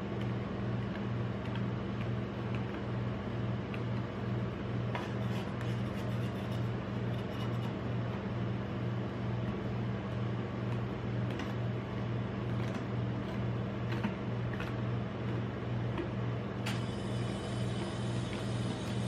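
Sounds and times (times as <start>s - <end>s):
refrigeration unit humming: 0.0s - 19.0s.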